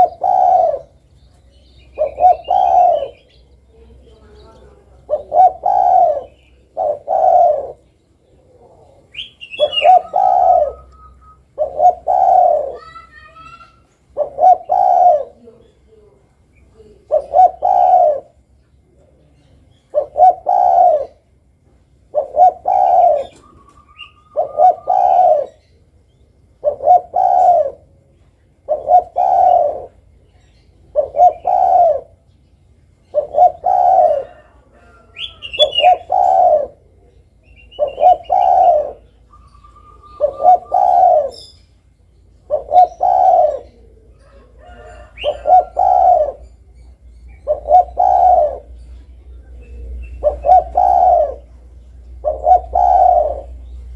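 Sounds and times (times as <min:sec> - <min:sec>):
faint high bird chirps: 0:00.0 - 0:21.3, 0:22.1 - 0:53.9
dove cooing: 0:00.0 - 0:32.3, 0:32.9 - 0:53.9.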